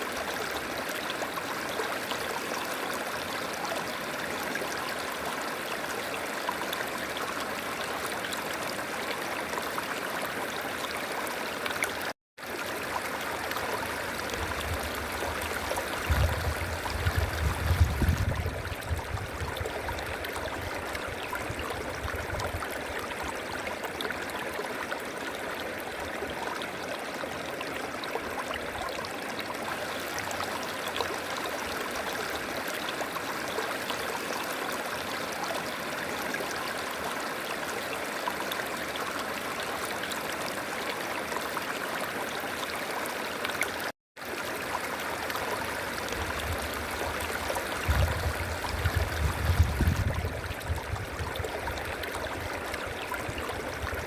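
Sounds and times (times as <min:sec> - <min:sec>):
river water flowing over rocks: 0:00.0 - 0:17.6, 0:19.6 - 0:54.0.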